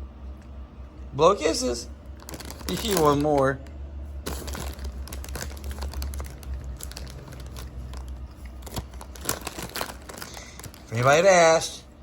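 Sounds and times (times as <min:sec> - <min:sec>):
low steady hum: 0:00.0 - 0:12.0
corn chips and bag crinkling: 0:02.1 - 0:11.7.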